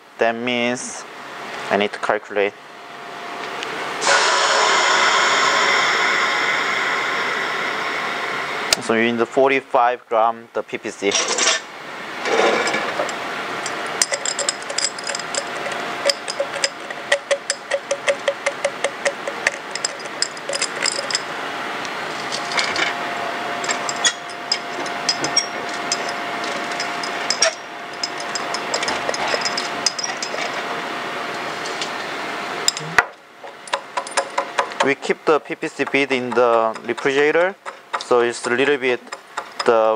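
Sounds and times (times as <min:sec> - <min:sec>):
thin steady hum: 0:00.0 - 0:39.9.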